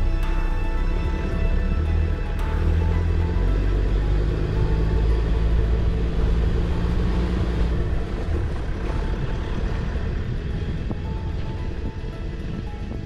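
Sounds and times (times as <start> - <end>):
road rumble: 0.0 - 13.0
vehicle engine drone: 0.0 - 13.0.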